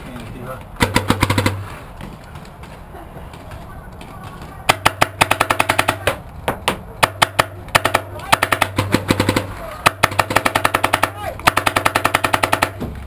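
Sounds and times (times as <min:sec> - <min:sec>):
paintball markers firing: 0:00.8 - 0:02.8, 0:03.4 - 0:13.0.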